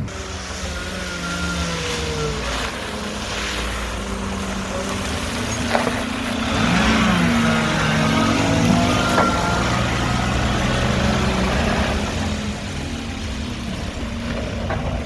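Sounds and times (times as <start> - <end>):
truck diesel engine revving: 0.0 - 15.0.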